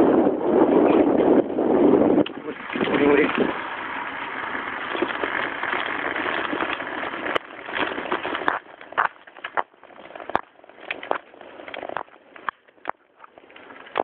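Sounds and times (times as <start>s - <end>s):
wind and tyre noise: 0.0s - 14.0s
bicycle knocks and rattles: 0.5s - 14.0s.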